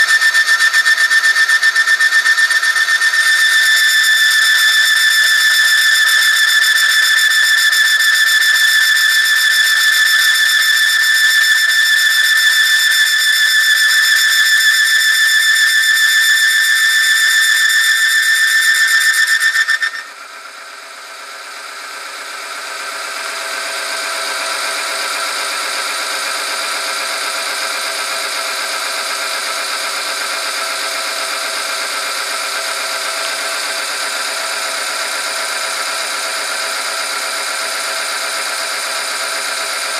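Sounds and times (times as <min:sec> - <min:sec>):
high-pitched machine squeal: 0:00.0 - 0:39.9.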